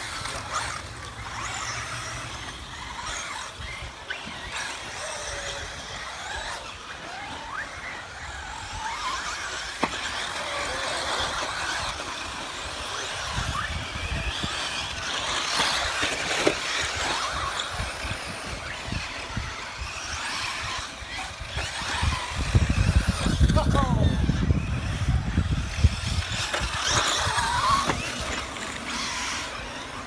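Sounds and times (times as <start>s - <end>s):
electric motor whines: 0.0s - 30.0s.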